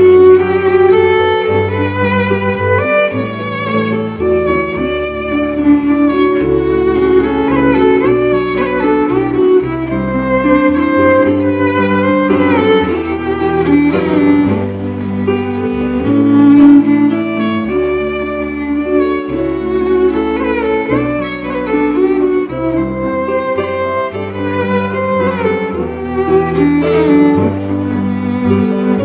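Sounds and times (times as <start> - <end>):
live band playing: 0.0 - 28.9
fiddle melody: 0.0 - 29.0.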